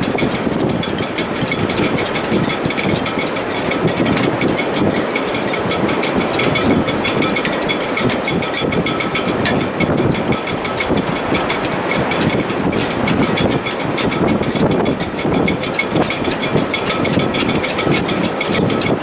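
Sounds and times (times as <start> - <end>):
rigging rattling ticks: 0.0 - 19.0
strong wind rushing: 0.0 - 19.0.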